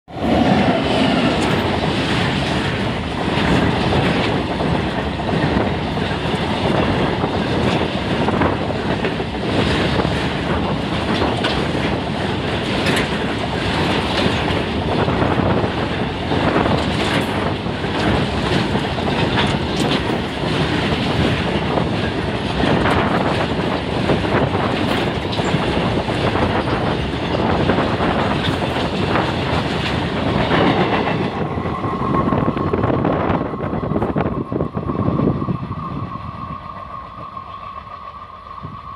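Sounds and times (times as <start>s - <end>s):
wheels clacking over rail joints: 0.1s - 32.9s
train wheels rumbling on rail: 0.1s - 38.9s.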